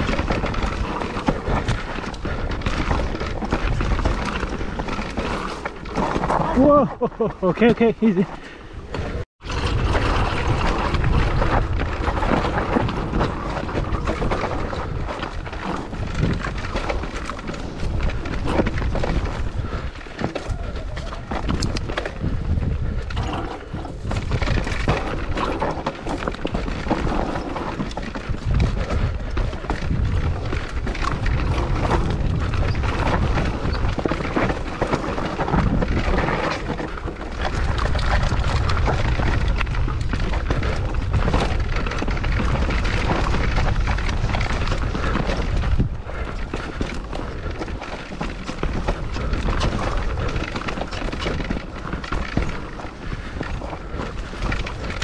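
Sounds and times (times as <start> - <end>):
bike rattling and knocking: 0.0 - 55.0
wind buffeting microphone: 0.0 - 55.0.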